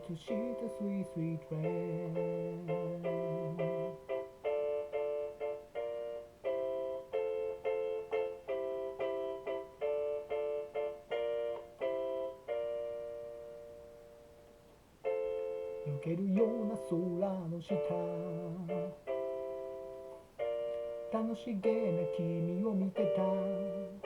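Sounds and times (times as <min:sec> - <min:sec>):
keyboard playing short chords: 0:00.0 - 0:24.0.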